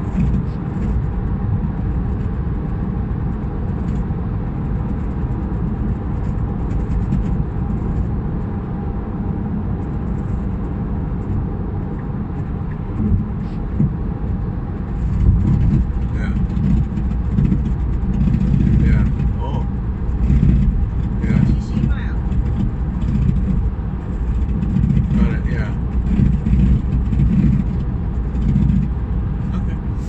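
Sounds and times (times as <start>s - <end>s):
car low rumble: 0.0s - 30.0s.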